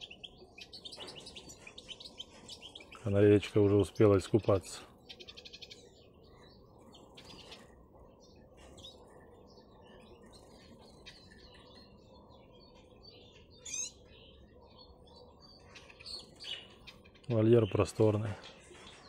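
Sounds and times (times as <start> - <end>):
birds chirping and twittering: 0.0 - 19.0.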